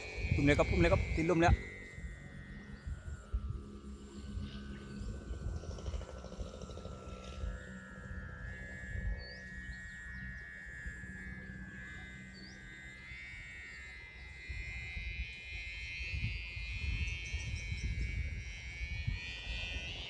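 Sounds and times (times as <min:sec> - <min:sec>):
kite hummer droning: 0:00.0 - 0:20.0.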